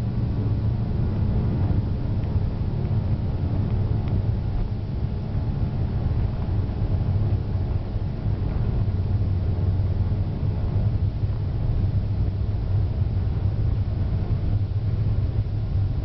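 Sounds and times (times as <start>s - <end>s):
wheels running on runway: 0.0s - 16.0s.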